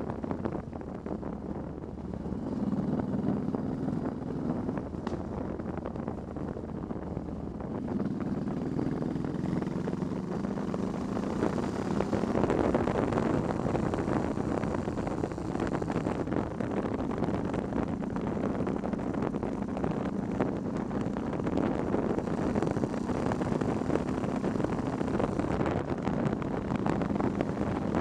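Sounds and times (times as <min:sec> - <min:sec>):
motorcycle engine running: 0:00.0 - 0:28.0
wind noise on microphone: 0:00.0 - 0:28.0.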